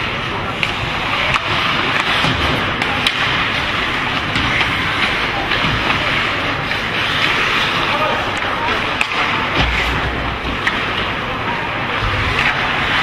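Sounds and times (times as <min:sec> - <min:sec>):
hockey sticks and puck clicking: 0:00.0 - 0:13.0
skates scraping on ice: 0:00.0 - 0:13.0.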